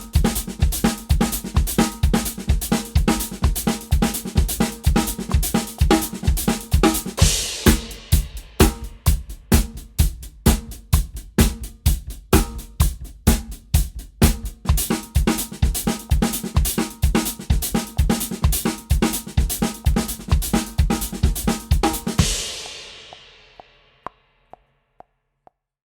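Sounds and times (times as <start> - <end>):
drum kit groove: 0.0 - 24.1.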